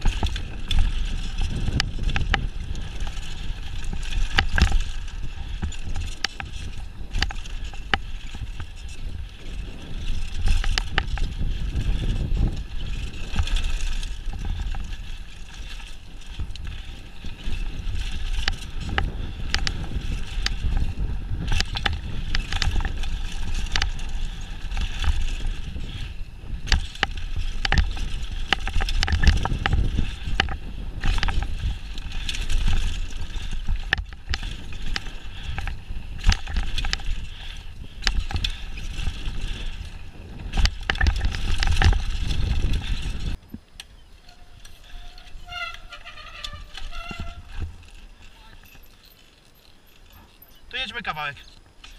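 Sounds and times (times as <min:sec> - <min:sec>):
wind on microphone: 0:00.0 - 0:48.8
bike chain and frame rattling: 0:00.0 - 0:51.9
tyres rolling over dirt: 0:00.0 - 0:51.9.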